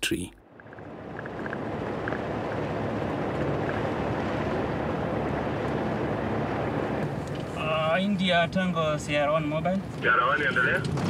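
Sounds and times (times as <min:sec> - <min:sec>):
vehicle engine and tyre rumble: 0:00.4 - 0:11.0.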